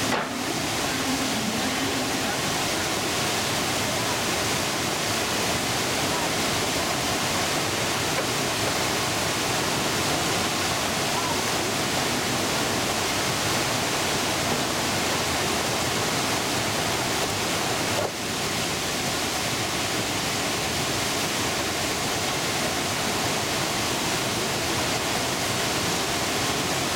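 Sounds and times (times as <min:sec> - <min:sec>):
whitewater rapids rushing: 0:00.0 - 0:26.9.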